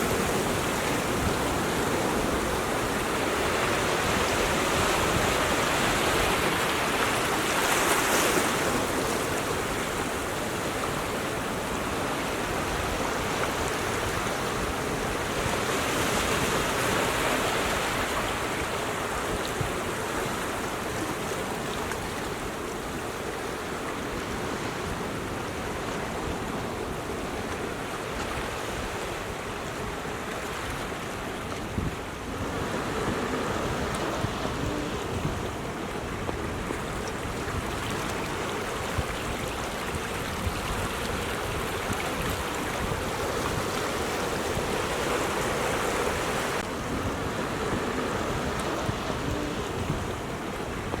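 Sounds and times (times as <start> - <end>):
ocean surf on rocky shore: 0.0 - 51.0.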